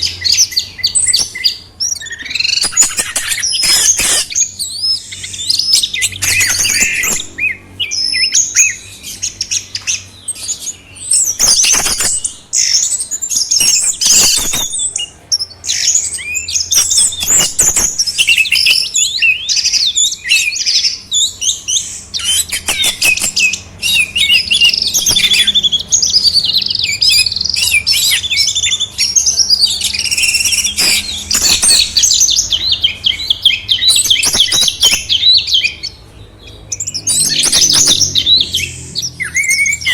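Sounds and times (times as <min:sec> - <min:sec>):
songbird chirping and warbling: 0:00.0 - 0:39.9.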